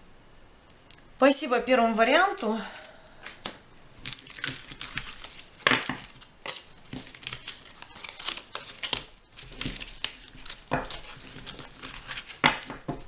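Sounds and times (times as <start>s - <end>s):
cards rustling: 2.2s - 13.0s.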